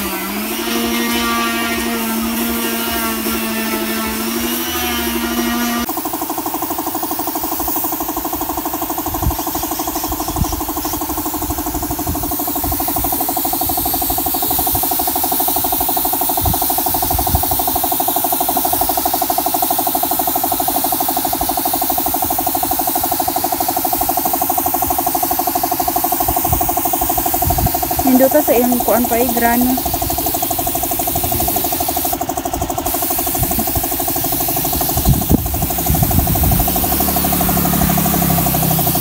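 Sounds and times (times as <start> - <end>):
air compressor running: 0.0 - 39.0
spray gun hissing: 0.0 - 39.0.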